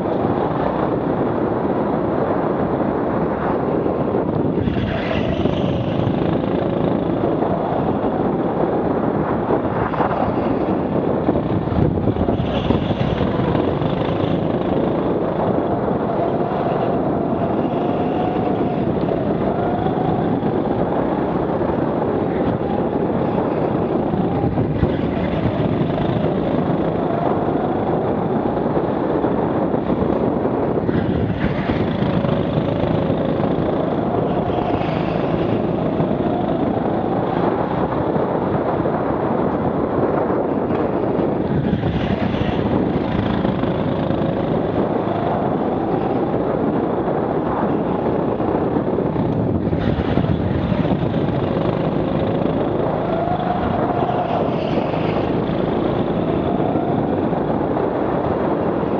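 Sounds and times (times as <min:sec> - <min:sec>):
go-kart engine: 0:00.0 - 0:58.9
steady rush of noise: 0:00.0 - 0:58.9.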